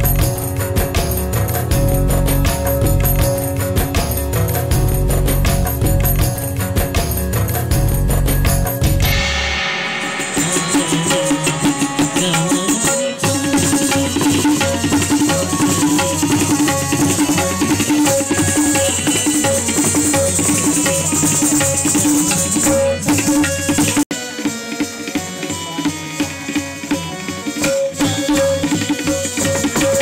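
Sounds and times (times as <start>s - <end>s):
tabla drumming: 0.0s - 30.0s.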